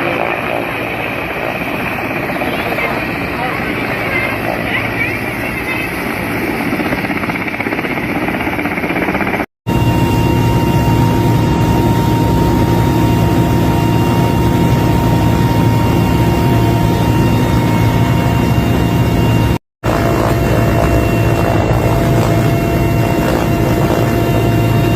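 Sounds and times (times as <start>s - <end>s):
helicopter rotor and turbine drone: 0.0s - 24.9s.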